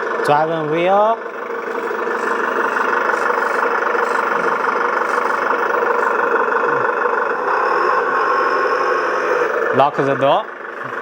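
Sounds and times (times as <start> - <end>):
simulated engine idle from speaker: 0.0 - 11.0.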